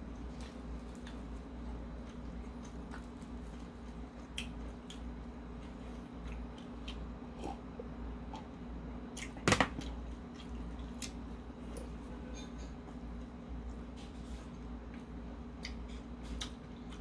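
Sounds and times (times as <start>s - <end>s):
chewing and wet mouth sounds: 0.1s - 17.0s.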